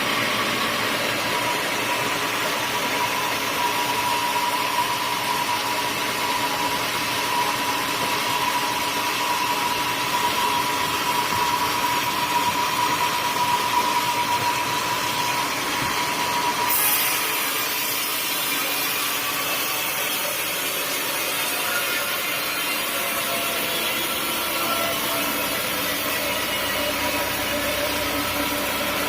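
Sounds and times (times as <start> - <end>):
sawmill blade cutting wood: 0.0 - 29.0
thin steady whine: 0.0 - 29.0.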